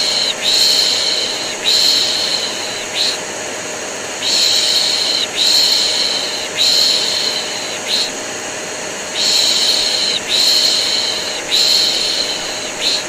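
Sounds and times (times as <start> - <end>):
vacuum cleaner drone: 0.0 - 13.0.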